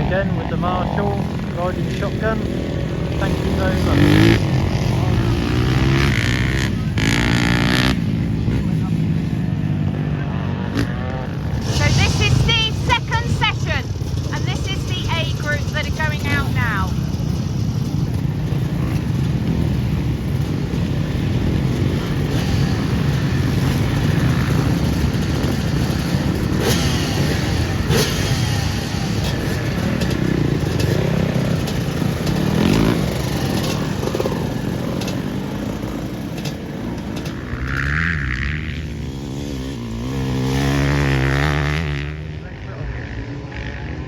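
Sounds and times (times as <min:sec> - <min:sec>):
motocross bike engines revving: 0:00.0 - 0:44.0.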